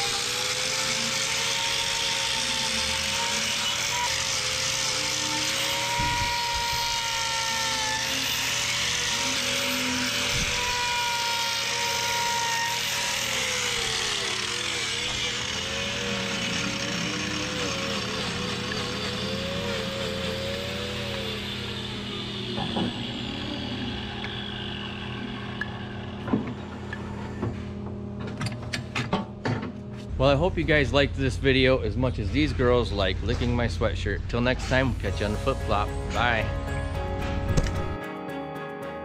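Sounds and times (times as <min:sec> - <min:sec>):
angle grinder whining: 0:00.0 - 0:29.0, 0:29.9 - 0:38.0.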